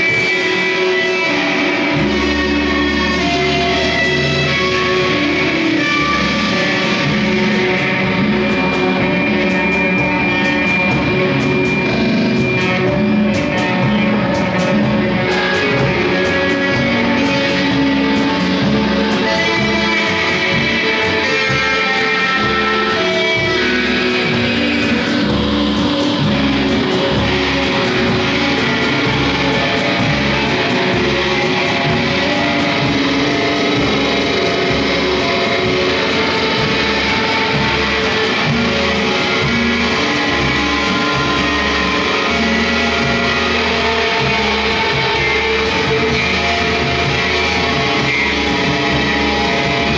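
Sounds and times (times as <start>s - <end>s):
electric guitar noise music: 0.0s - 49.9s.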